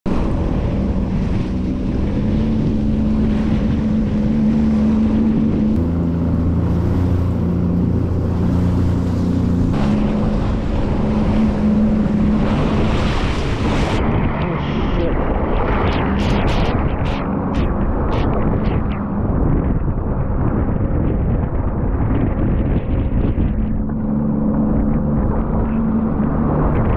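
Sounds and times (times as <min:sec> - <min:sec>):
watercraft engine running: 0:00.0 - 0:26.9
water rushing past hull: 0:00.1 - 0:26.9
wind buffeting microphone: 0:00.1 - 0:26.9.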